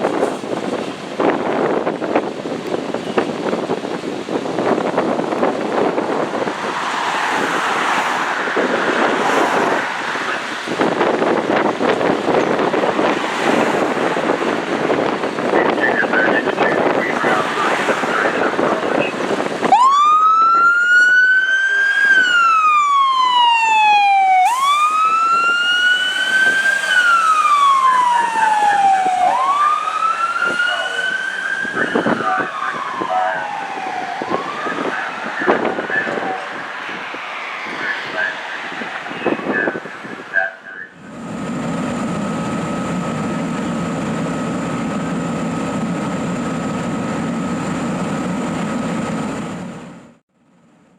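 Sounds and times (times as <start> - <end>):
fire engine siren wailing: 5.2 - 49.5.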